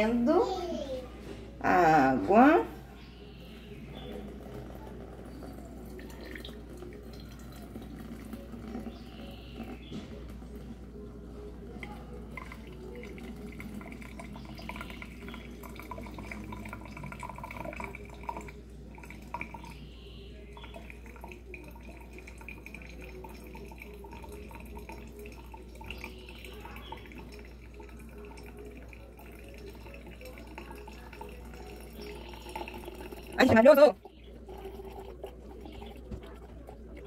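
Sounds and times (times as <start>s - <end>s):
coffee trickling and dripping: 1.8s - 37.0s
water pouring: 3.9s - 37.0s.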